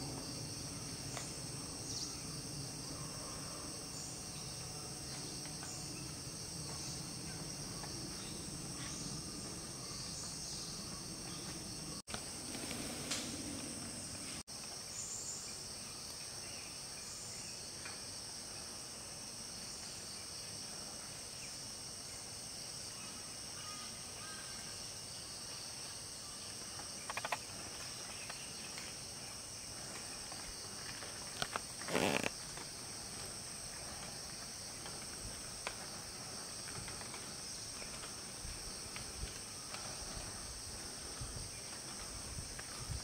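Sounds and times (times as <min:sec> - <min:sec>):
insects chorus drone: 0:00.0 - 0:43.0.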